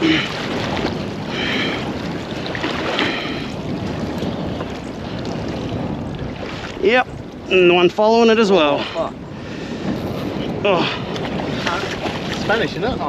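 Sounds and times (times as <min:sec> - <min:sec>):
water rushing along boat hull: 0:00.0 - 0:13.0
wind buffeting microphone: 0:00.0 - 0:13.0.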